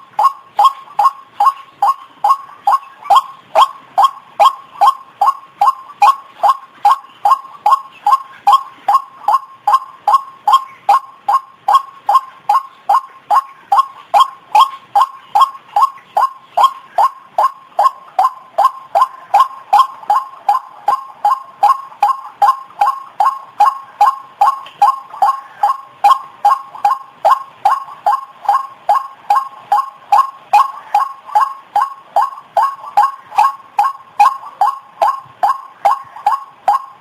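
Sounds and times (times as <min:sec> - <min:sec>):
waterhen call: 0:00.0 - 0:37.0.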